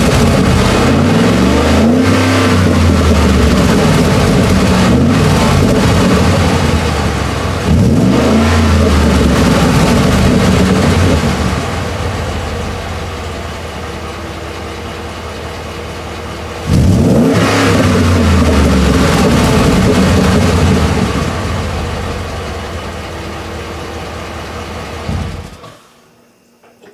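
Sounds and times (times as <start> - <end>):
loud engine exhaust: 0.0 - 25.8.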